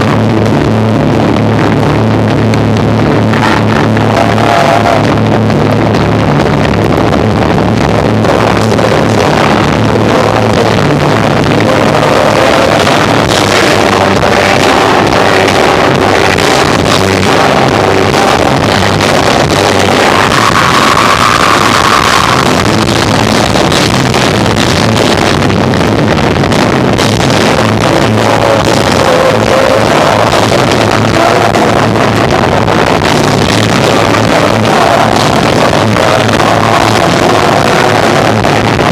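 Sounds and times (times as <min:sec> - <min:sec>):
distorted rock band playing: 0:00.0 - 0:38.9.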